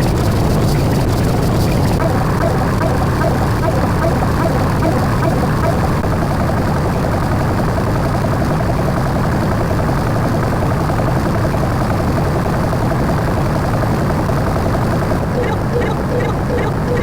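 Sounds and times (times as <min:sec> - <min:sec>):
engine-like rumbling: 0:00.0 - 0:17.0.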